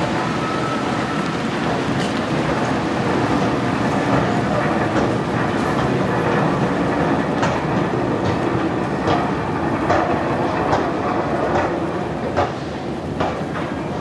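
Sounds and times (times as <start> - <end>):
metro train rumbling on rails: 0.0 - 14.0.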